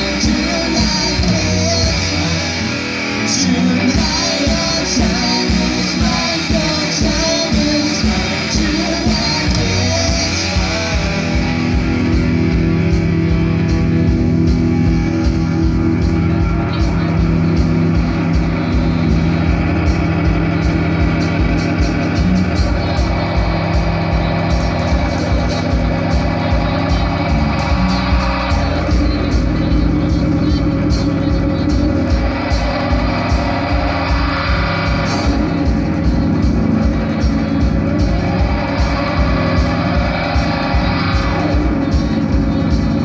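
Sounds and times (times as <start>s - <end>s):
bass guitar: 0.0s - 43.0s
drums: 0.0s - 43.0s
electric guitars: 0.0s - 43.0s.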